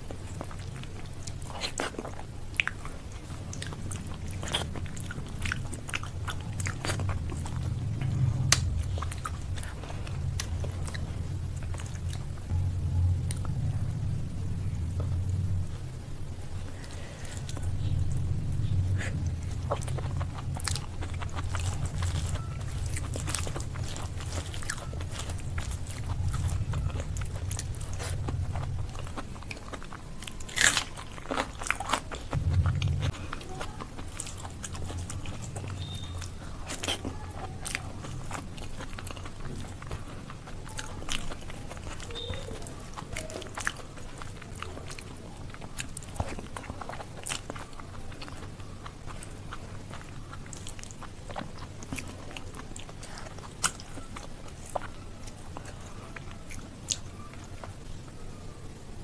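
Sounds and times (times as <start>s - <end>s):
close-miked chewing: 0.0s - 59.0s.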